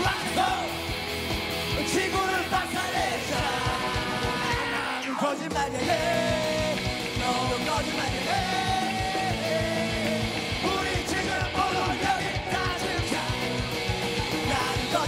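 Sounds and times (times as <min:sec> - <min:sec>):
male lead vocal singing: 0:00.0 - 0:01.0, 0:01.7 - 0:15.0
driving drum beat: 0:00.0 - 0:15.0
punk rock band playing: 0:00.0 - 0:15.0.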